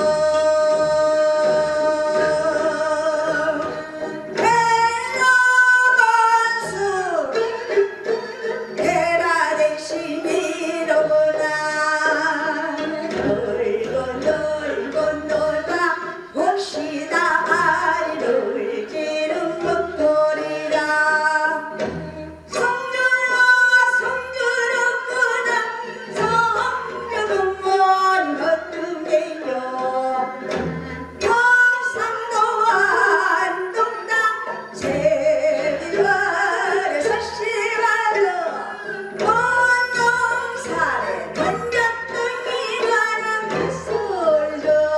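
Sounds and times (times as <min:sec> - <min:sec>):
woman singing folk song: 0:00.0 - 0:21.8, 0:22.5 - 0:30.5, 0:31.1 - 0:44.9
instrumental accompaniment: 0:00.0 - 0:44.9.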